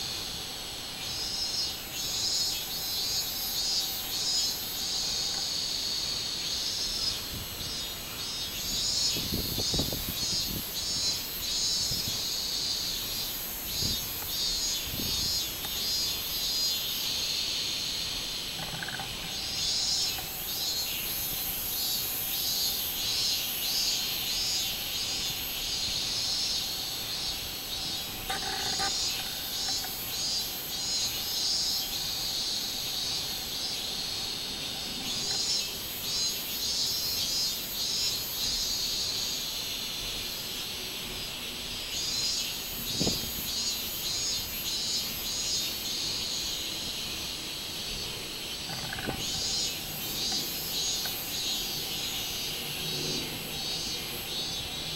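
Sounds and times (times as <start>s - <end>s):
cicadas singing: 0.0s - 54.9s.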